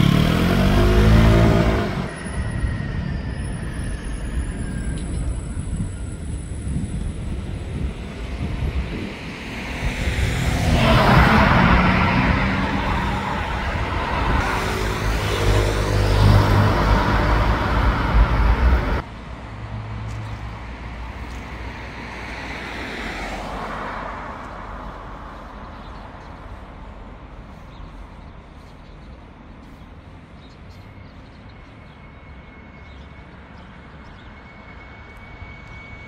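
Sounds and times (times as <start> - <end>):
vehicles passing close by: 0.0 - 3.1, 4.9 - 36.0
quieter street traffic: 0.0 - 36.0.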